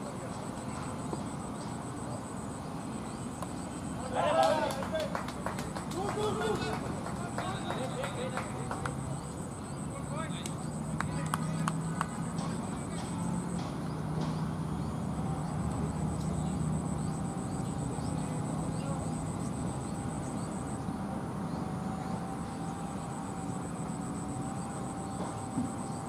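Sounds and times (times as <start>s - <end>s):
low engine drone with whine: 5.1s - 26.0s.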